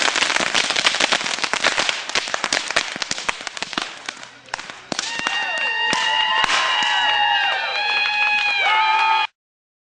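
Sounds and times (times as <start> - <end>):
fireworks pops and cracks: 0.0 - 8.5.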